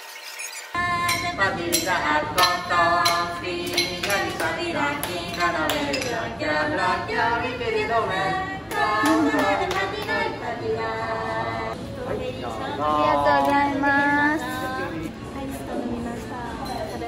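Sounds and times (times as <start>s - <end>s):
people singing without instruments: 0.8s - 15.2s.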